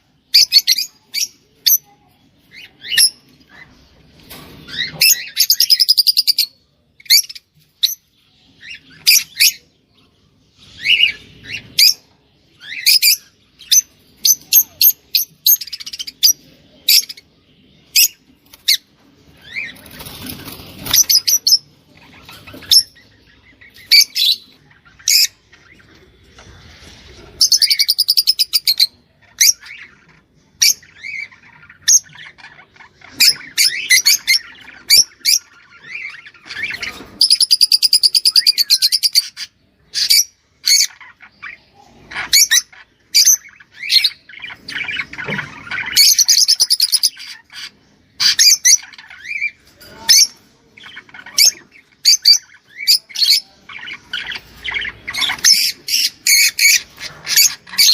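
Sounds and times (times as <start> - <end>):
cage birds chirping: 0.0 - 57.9.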